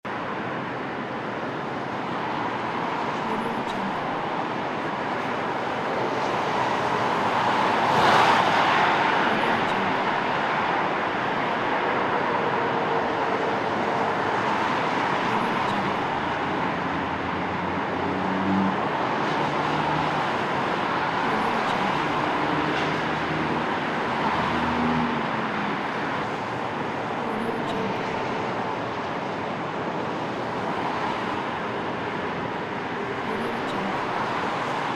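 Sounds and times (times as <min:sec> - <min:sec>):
city street traffic: 0:00.0 - 0:34.9.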